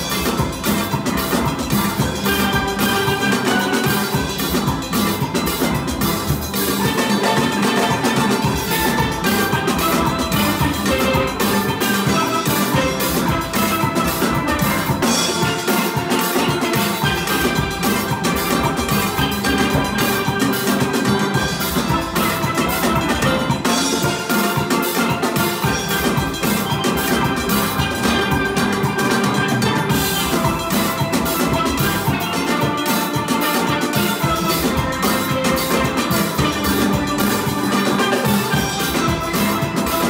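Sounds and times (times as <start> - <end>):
steel band playing calypso: 0.0 - 40.0.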